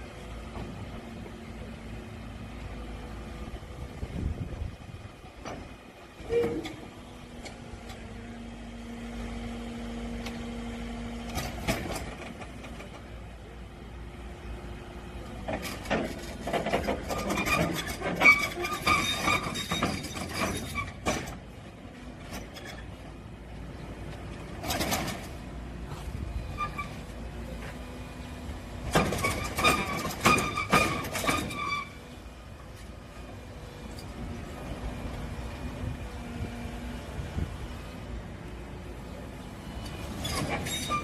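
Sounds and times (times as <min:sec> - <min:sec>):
excavator engine hum: 0:00.0 - 0:41.0.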